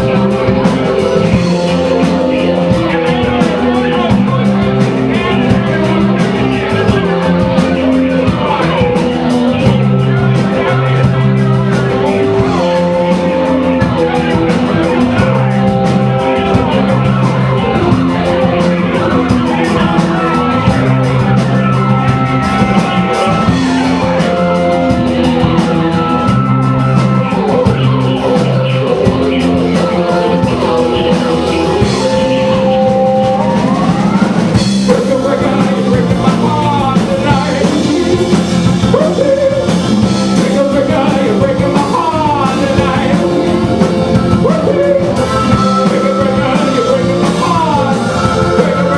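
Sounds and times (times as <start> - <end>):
drum kit: 0.0 - 48.9
indie rock song: 0.0 - 48.9
keyboard chords: 0.0 - 48.9
person singing: 0.0 - 48.9.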